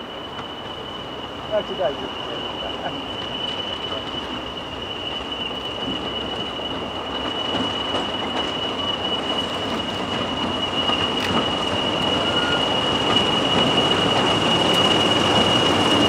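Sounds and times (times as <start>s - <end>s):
diesel locomotive engine: 0.0s - 16.0s
train wheel rumble: 0.0s - 16.0s
high turbocharger whistle: 0.4s - 16.0s.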